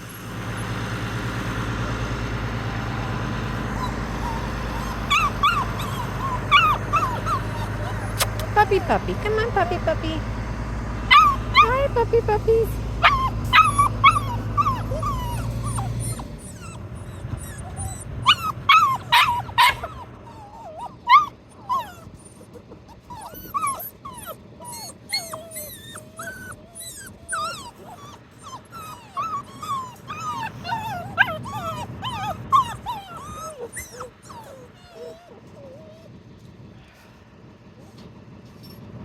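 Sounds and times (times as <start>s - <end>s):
puppies whining and yipping: 3.0s - 10.0s, 11.1s - 36.5s, 37.8s - 38.9s.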